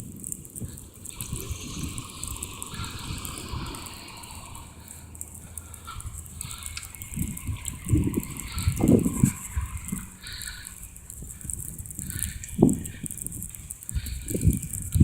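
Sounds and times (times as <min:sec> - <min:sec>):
bicycle tyres hissing through snow: 0:00.0 - 0:15.0
small rattles: 0:00.0 - 0:15.0
wind rumbling on microphone: 0:00.0 - 0:15.0.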